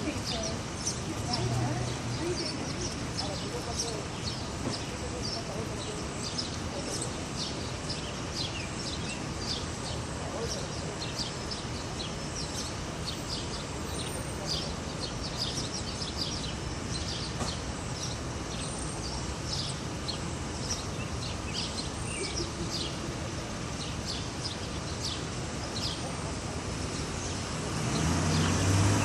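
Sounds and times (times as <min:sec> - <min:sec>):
distant city traffic hum: 0:00.0 - 0:29.0
small birds chirping: 0:00.0 - 0:29.0.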